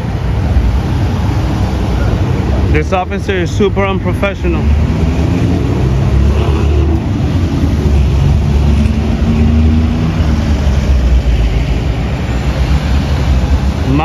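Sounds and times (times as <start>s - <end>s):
road traffic rumble: 0.0s - 14.0s
vehicle engine hum: 0.0s - 14.0s.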